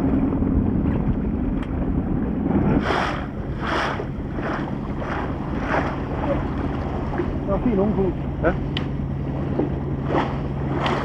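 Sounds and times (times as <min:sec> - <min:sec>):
motorboat engine running: 0:00.0 - 0:11.0
water splashing against hull: 0:00.0 - 0:11.0
wind buffeting microphone: 0:00.0 - 0:11.0.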